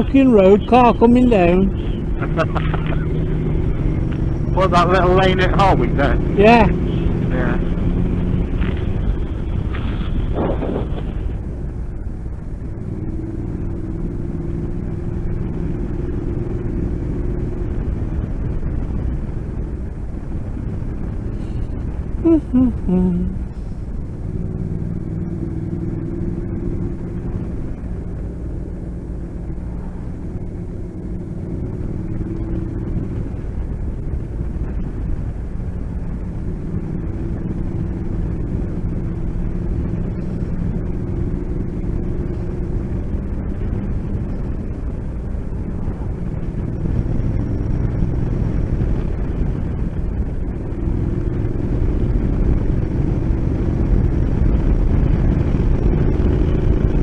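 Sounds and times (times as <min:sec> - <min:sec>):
motorcycle engine running: 0:00.0 - 0:57.0
road and wind rumble: 0:00.0 - 0:57.0.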